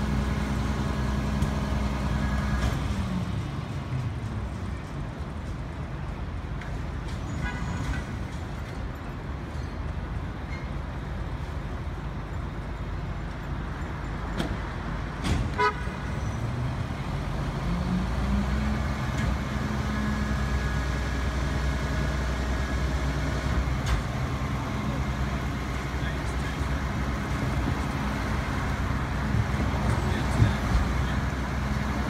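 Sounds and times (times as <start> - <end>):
city street noise: 0.0 - 32.0.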